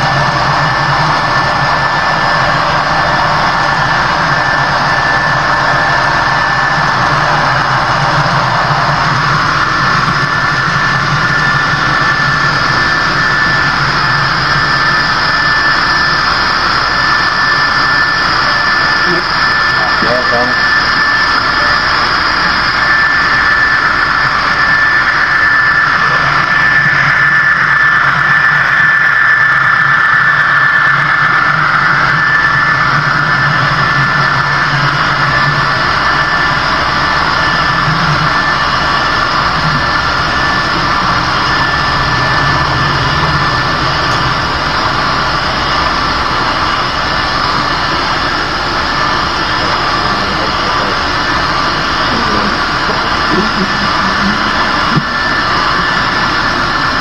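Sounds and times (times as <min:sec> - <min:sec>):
constant high tone: 0:00.0 - 0:57.0
low hum: 0:00.0 - 0:57.0
model train engine drone: 0:00.0 - 0:57.0.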